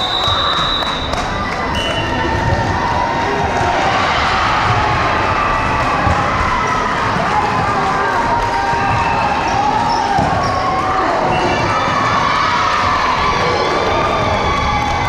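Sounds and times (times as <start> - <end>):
crowd chatter and calls: 0.0 - 15.0.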